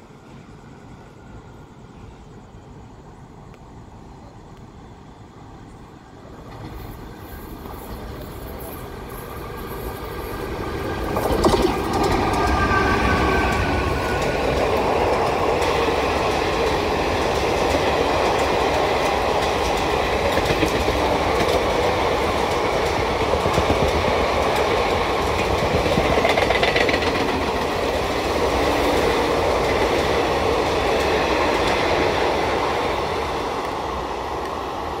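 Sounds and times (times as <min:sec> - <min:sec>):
train wheels rumbling on rails: 0:05.6 - 0:35.0.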